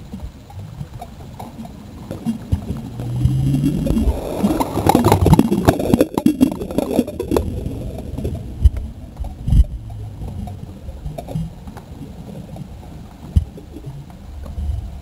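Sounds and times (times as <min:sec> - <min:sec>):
seawater sloshing underwater: 0:00.0 - 0:15.0.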